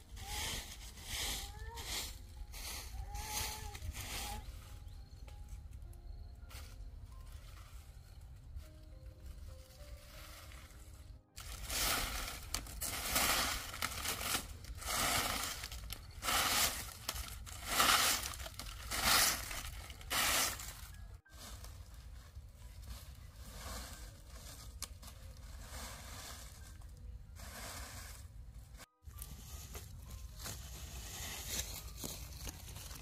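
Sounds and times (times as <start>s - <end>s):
leaf broom scraping dirt: 0.0s - 5.6s, 6.4s - 33.0s.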